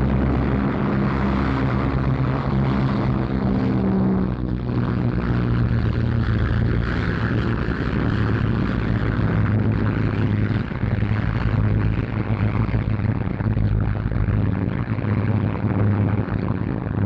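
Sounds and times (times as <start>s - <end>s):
aircraft radial engines droning: 0.0s - 17.0s.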